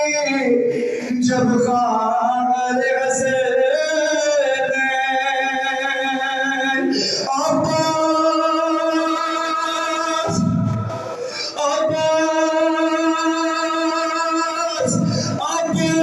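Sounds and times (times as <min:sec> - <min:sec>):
man singing a lament into microphone: 0:00.0 - 0:16.0.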